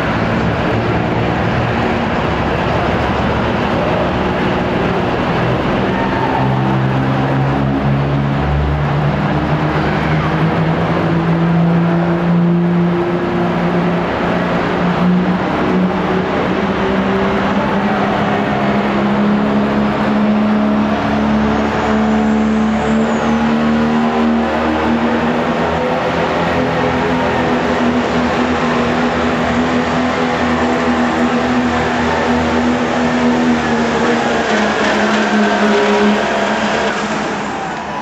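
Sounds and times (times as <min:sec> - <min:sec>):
diesel truck engine revving hard: 0:00.0 - 0:38.0.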